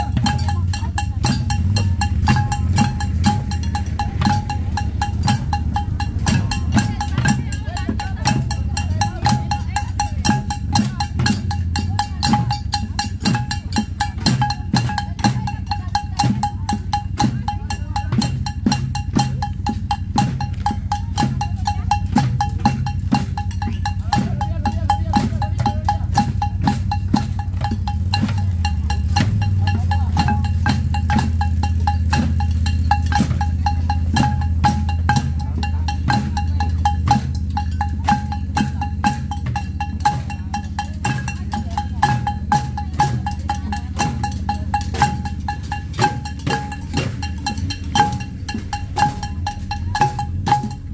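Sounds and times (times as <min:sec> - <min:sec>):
tin band beating marching rhythm: 0:00.0 - 0:50.9
vehicle engine hum: 0:00.0 - 0:50.9.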